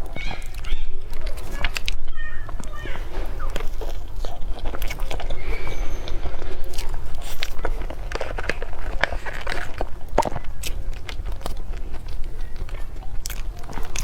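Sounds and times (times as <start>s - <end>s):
chewing cake: 0.0s - 14.0s.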